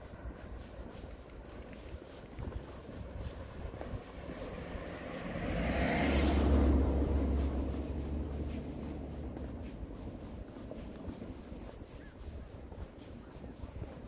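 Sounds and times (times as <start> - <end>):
vehicle passing by: 0.6 - 12.0.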